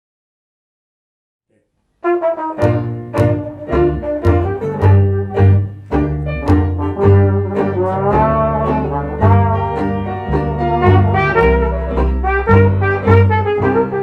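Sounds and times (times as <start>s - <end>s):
trombone: 2.0s - 14.0s
trumpet: 2.0s - 14.0s
banjo strumming: 2.1s - 14.0s
plucked bass line: 2.4s - 14.0s.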